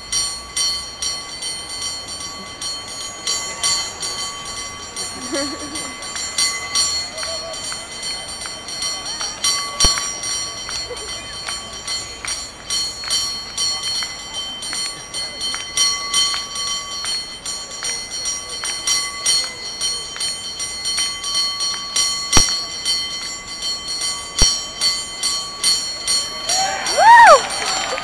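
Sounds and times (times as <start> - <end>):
cable car bell rung by hand: 0.0 - 28.0.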